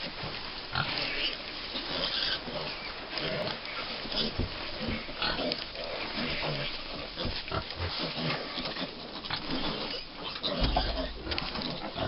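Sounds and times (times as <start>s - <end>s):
piglets grunting and squealing: 0.7s - 12.0s.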